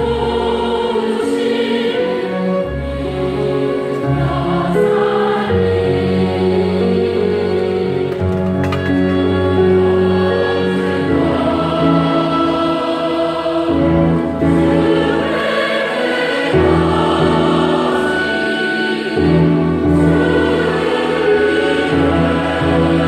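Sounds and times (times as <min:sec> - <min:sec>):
choir singing a hymn: 0:00.0 - 0:23.0
instrumental accompaniment: 0:00.2 - 0:23.0.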